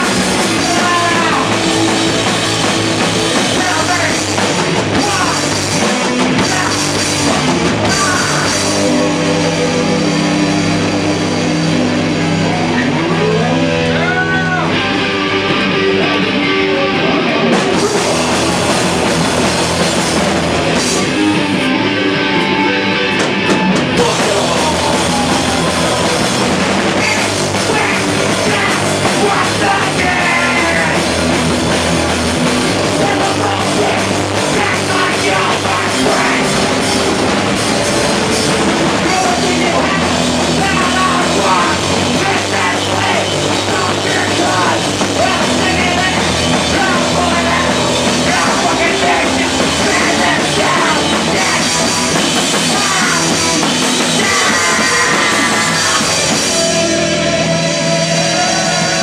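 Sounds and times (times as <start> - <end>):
person singing: 0.0 - 31.5, 32.1 - 59.0
drum kit: 0.0 - 59.0
guitars: 0.0 - 59.0
rock band playing live: 0.0 - 59.0.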